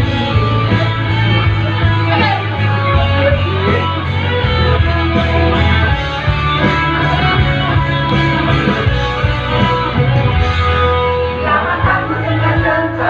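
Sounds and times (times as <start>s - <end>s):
bass line: 0.0s - 13.0s
pop-rock guitars: 0.0s - 13.0s.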